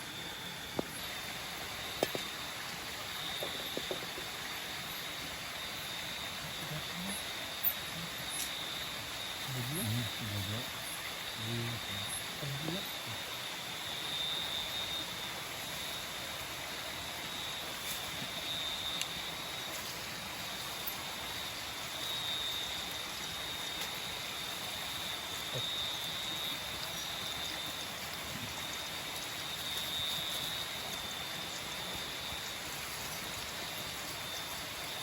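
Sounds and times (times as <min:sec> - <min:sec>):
insects trilling: 0:00.0 - 0:35.0
rushing water: 0:00.0 - 0:35.0.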